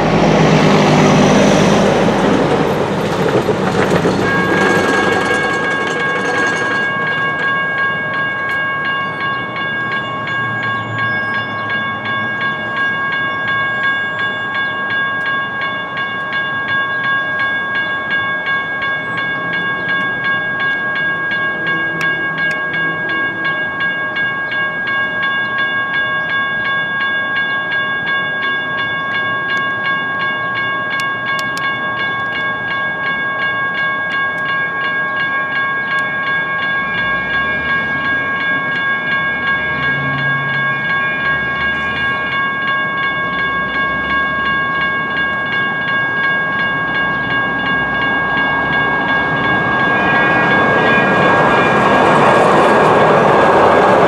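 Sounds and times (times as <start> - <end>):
crossing signal bells ringing: 0.0 - 54.0
light rail train approaching: 0.0 - 54.0.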